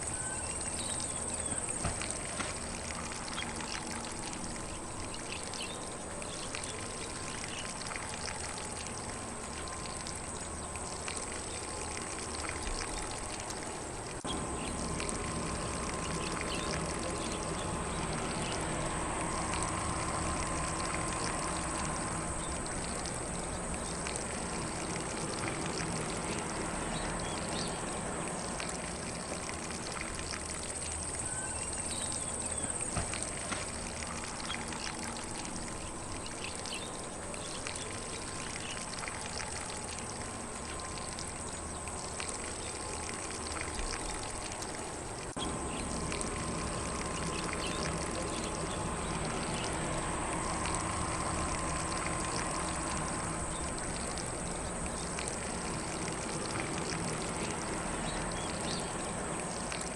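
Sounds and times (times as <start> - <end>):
lawn sprinkler spraying water: 0.0 - 59.9.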